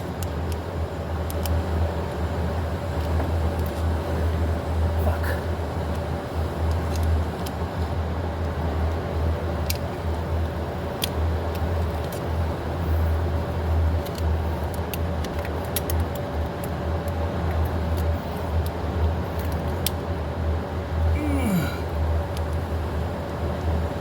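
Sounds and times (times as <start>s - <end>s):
constant hum: 0.0s - 24.0s.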